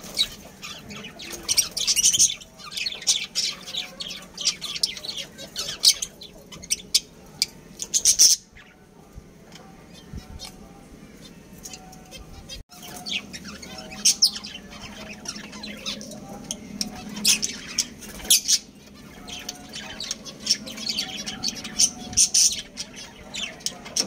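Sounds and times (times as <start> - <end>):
caged birds chirping and squawking: 0.0 - 24.0.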